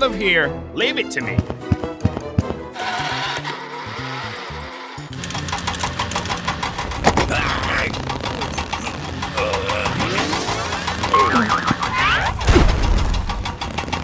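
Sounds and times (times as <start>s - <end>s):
background music: 0.0s - 14.0s
rapid mechanical rattle: 2.8s - 14.0s.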